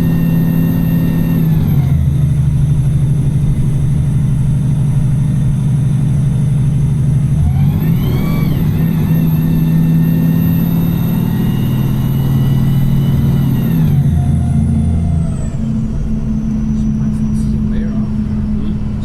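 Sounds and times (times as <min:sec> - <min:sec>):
bus engine accelerating: 0:00.0 - 0:19.0
transmission whine: 0:00.0 - 0:19.0.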